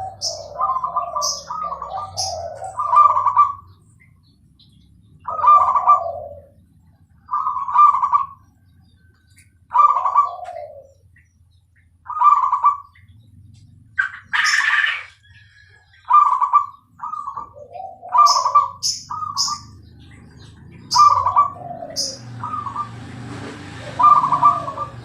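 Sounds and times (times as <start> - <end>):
dove cooing: 0.0 - 4.0, 5.2 - 11.4, 12.0 - 25.0.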